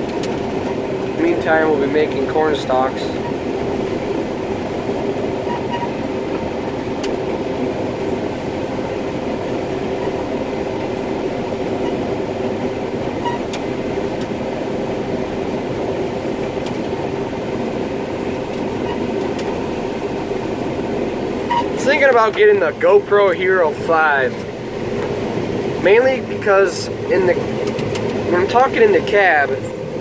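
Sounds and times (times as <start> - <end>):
combine harvester drone: 0.0 - 30.0.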